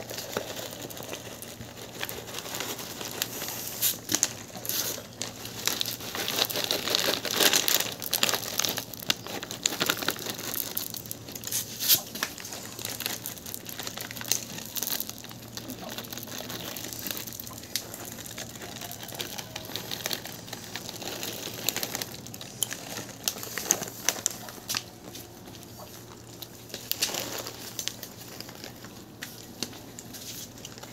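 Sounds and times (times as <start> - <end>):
dry kibble shaken out: 0.0 - 30.9
plastic bag crinkling: 0.0 - 30.9.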